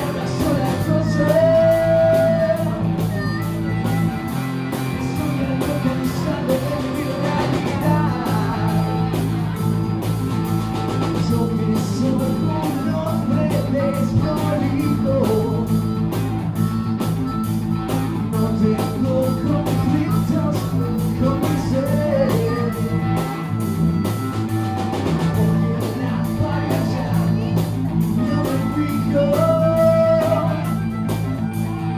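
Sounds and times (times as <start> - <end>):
drums: 0.0 - 31.9
electric bass: 0.0 - 31.9
electric guitar: 0.0 - 31.9
wavering lead melody: 0.0 - 31.9.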